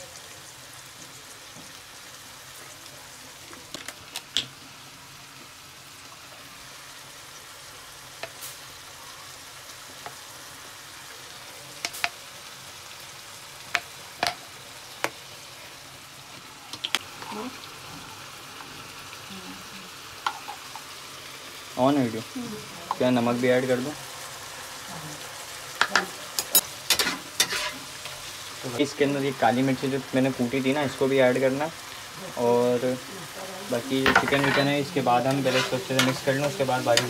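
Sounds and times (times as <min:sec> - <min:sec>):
vegetables sizzling in a frying pan: 0:00.0 - 0:37.0.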